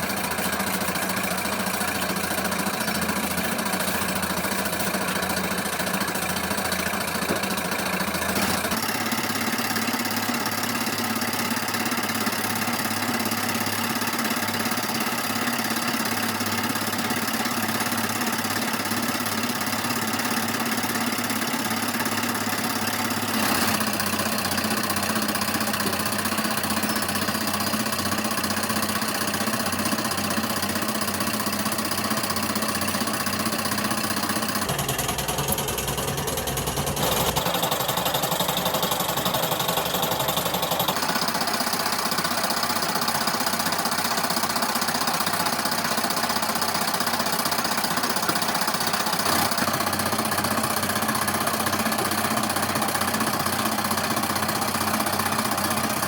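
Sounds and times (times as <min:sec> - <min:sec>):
workshop machinery droning: 0:00.0 - 0:56.0.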